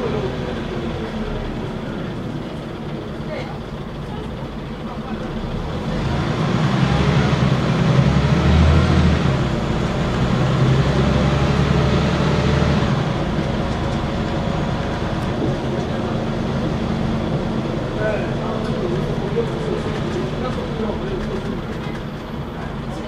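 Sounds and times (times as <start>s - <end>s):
bus engine running under load: 0.0s - 23.0s.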